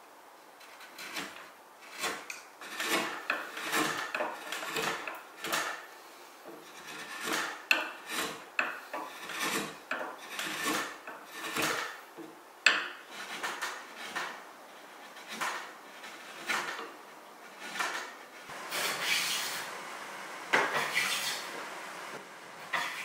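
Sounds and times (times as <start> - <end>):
chisel scraping wood: 0.6 - 12.0, 12.7 - 19.8, 20.5 - 21.7, 22.6 - 23.0.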